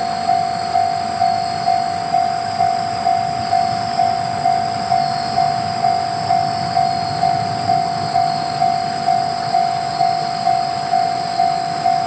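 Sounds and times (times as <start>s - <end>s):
level crossing warning bell: 0.0s - 12.0s.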